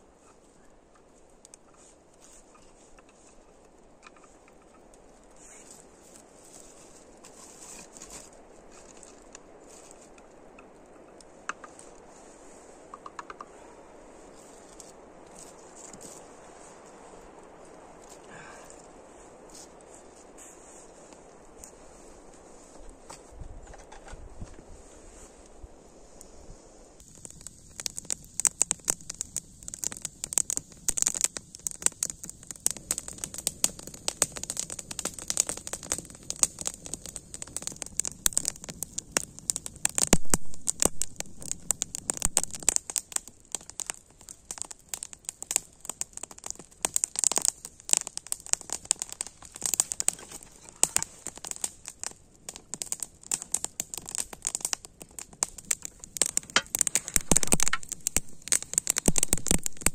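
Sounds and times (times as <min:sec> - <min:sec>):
campfire crackling and popping: 0:00.0 - 0:59.9
steady high hiss: 0:00.0 - 0:59.9.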